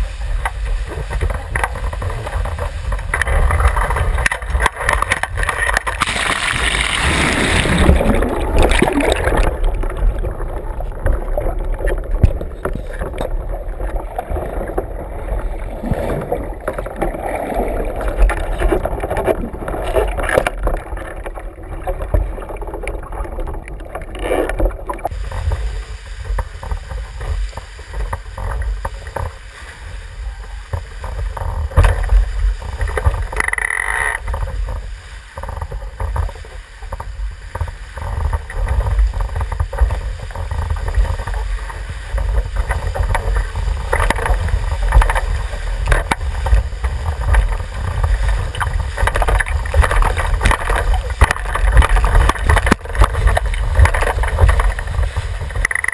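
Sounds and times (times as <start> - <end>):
water rushing past a hull: 0.0 - 55.9.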